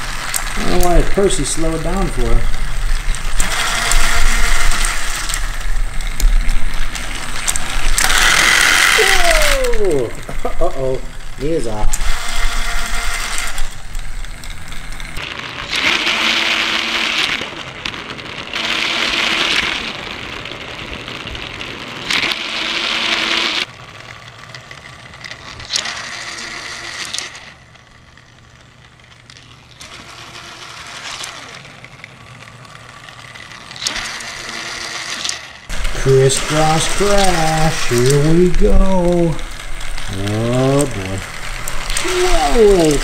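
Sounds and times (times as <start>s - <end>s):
toy train motors whirring: 0.0s - 43.0s.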